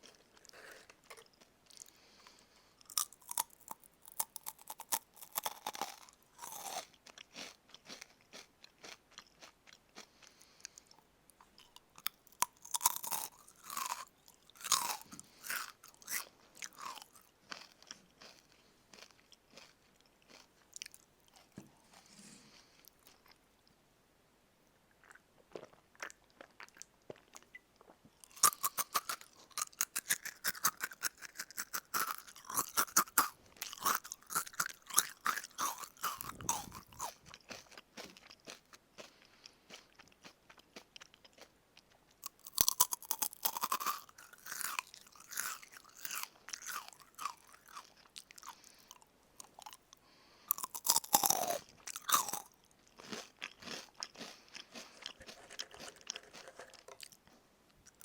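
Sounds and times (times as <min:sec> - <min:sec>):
crunching and chewing fried chicken: 0:00.0 - 0:23.4, 0:25.0 - 0:58.0.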